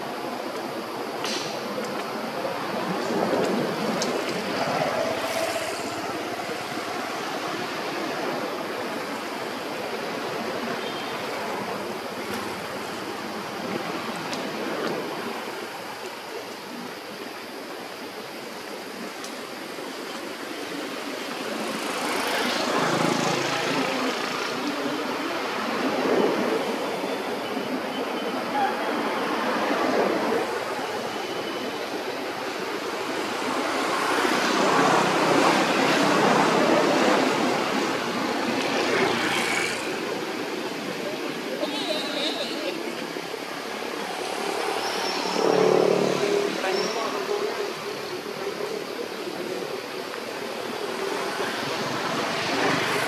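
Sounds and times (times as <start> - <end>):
steady rushing outdoor noise: 0.0 - 53.0.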